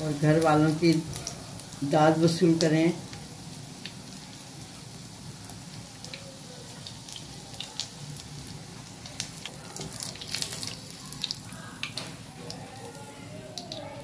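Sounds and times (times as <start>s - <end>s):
cutlets sizzling in hot oil: 0.0s - 14.0s.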